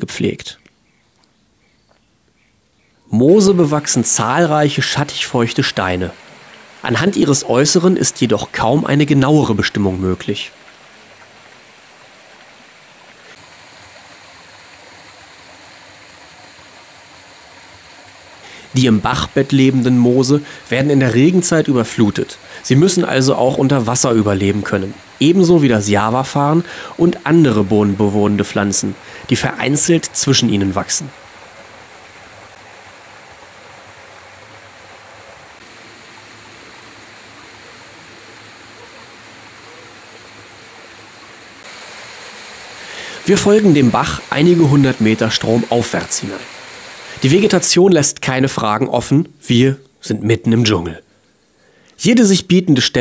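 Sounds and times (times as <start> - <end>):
stream flowing over rocks: 3.2 - 48.8.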